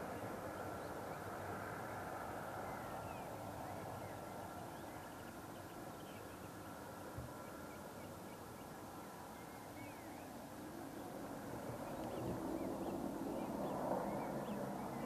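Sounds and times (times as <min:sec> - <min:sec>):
distant helicopter drone: 0:00.0 - 0:15.0.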